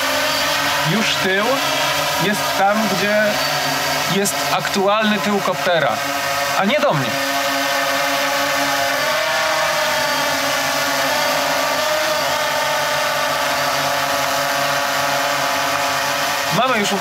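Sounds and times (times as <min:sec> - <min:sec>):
drone motors humming: 0:00.0 - 0:17.0.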